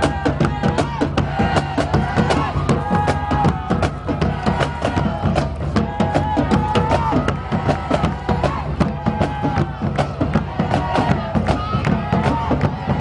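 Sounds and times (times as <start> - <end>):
upbeat music with drums and bass: 0.0 - 13.0.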